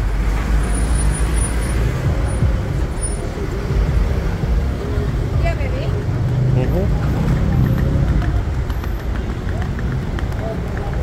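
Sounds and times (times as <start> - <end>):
cars and vans driving past: 0.0 - 11.0.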